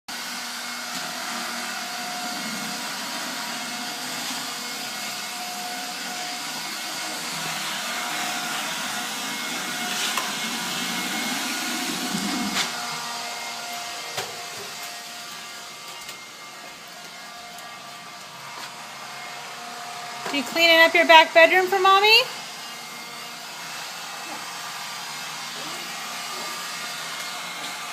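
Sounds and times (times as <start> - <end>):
vacuum cleaner running: 0.1 - 27.9.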